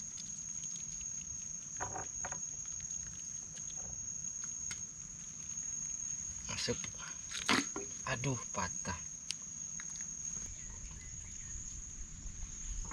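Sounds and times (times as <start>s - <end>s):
high-pitched insect drone: 0.0s - 12.9s.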